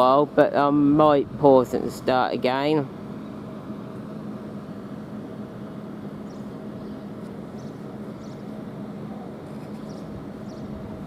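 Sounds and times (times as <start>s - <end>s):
electric train humming: 0.0s - 11.0s.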